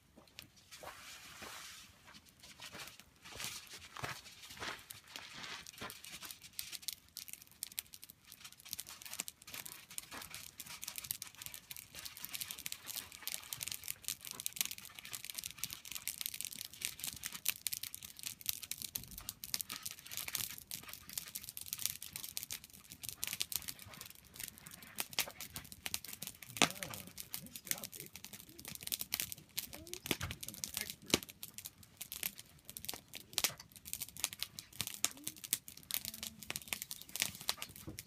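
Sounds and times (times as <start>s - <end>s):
campfire crackling and popping: 0.0s - 38.0s.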